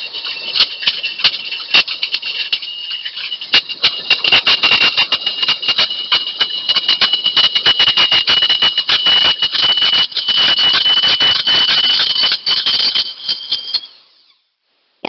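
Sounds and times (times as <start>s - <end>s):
band saw cutting steel: 0.0s - 14.3s.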